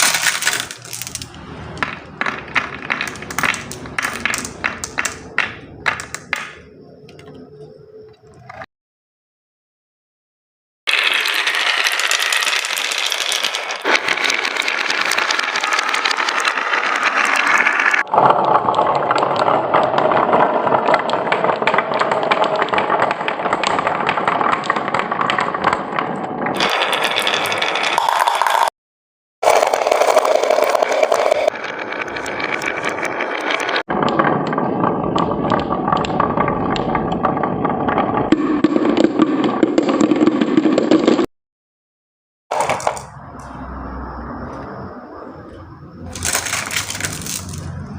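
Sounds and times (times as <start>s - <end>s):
marbles rolling down a track: 0.0s - 6.7s, 10.9s - 28.7s, 29.4s - 41.3s, 42.5s - 43.8s, 46.0s - 47.9s.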